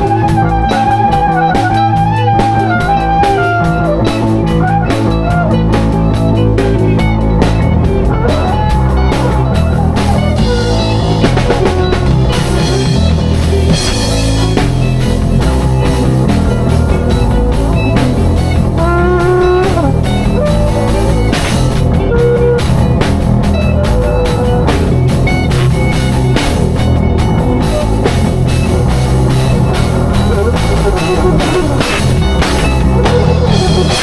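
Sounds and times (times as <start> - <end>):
drum kit playing a steady beat: 0.0 - 34.0
guitar playing: 0.0 - 34.0
lead guitar bending notes: 0.0 - 34.0.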